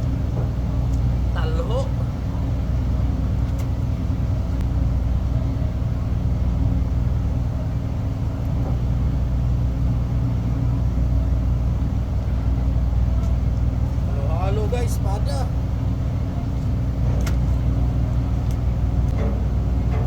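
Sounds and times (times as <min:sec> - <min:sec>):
ship engine drone: 0:00.0 - 0:20.0.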